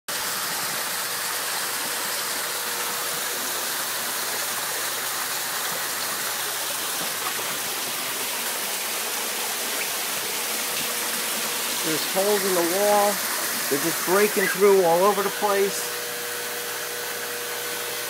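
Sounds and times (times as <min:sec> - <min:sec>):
water rushing into basement: 0:00.1 - 0:18.0.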